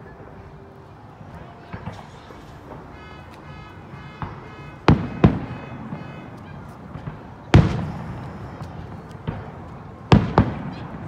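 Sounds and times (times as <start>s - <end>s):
fireworks shells bursting: 1.7s - 10.8s.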